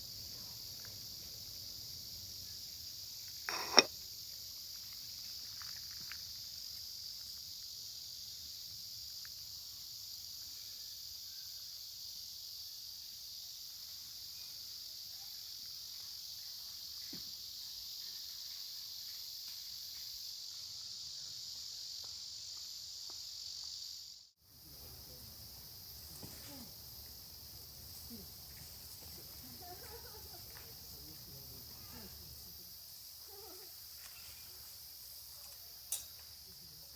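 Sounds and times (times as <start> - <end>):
insects chirring: 0.0 - 36.9.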